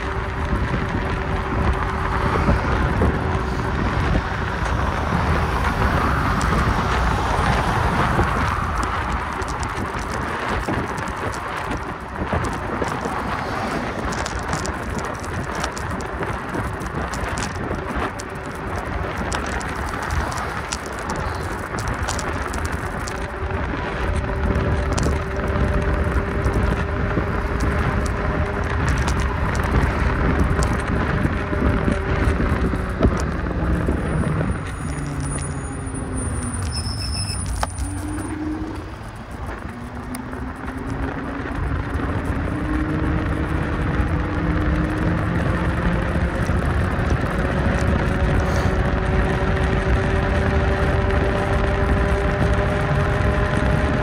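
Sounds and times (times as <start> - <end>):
road and wind rush: 0.0 - 54.0
vehicle engine: 0.0 - 54.0.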